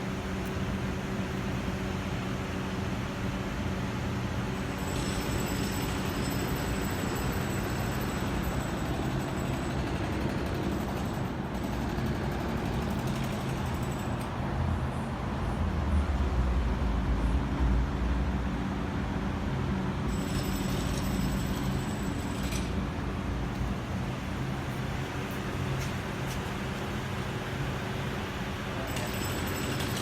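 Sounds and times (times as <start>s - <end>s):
city street noise: 0.0s - 30.0s.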